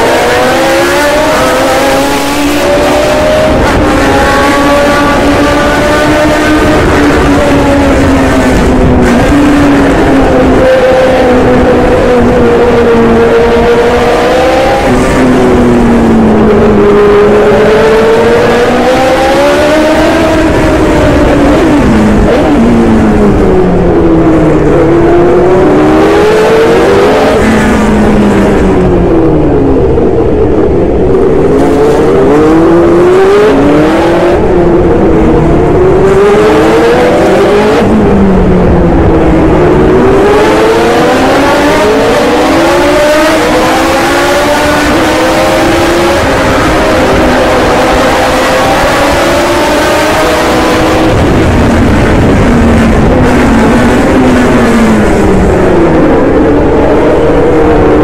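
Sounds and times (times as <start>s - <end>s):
racing car engine revving: 0.0s - 58.0s.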